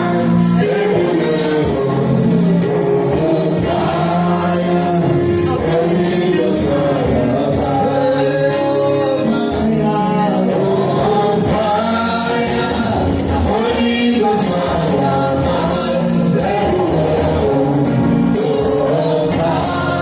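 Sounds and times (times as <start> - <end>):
gospel worship music: 0.0 - 20.0.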